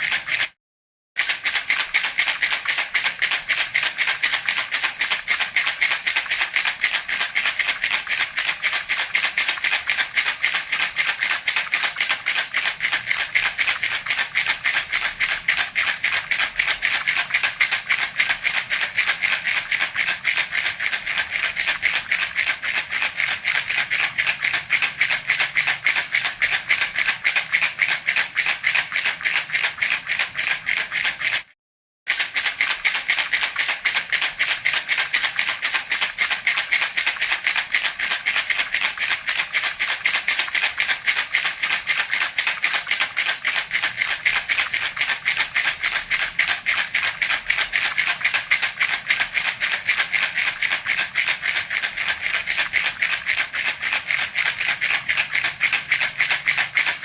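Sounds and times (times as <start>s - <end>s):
baby rattle shaken: 0.0s - 0.6s, 1.2s - 31.5s, 32.1s - 57.0s.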